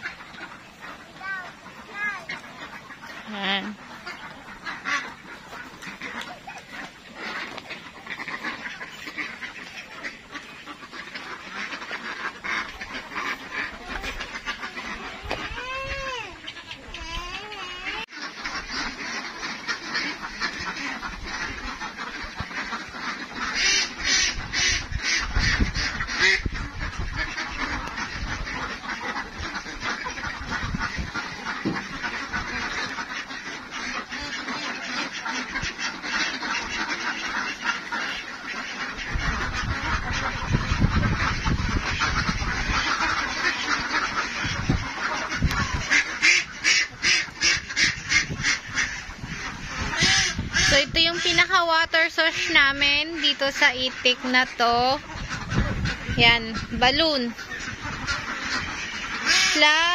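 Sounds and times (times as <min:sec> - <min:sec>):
flock of ducks quacking: 0:00.0 - 0:59.9.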